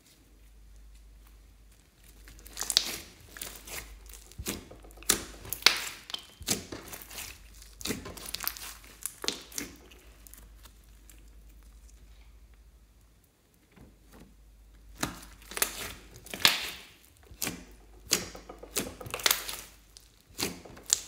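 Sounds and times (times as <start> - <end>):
slime crackling and popping: 1.7 - 13.5, 14.8 - 21.0.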